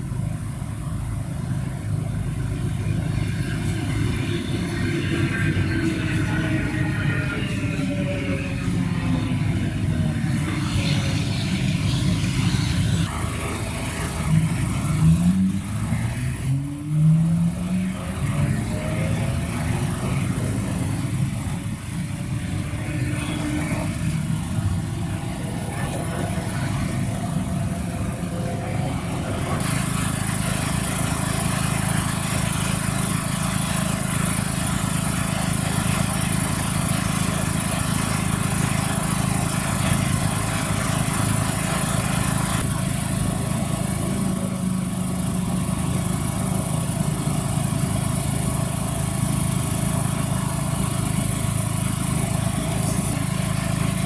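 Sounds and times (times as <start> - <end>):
train traction motors whining: 0.0 - 54.0.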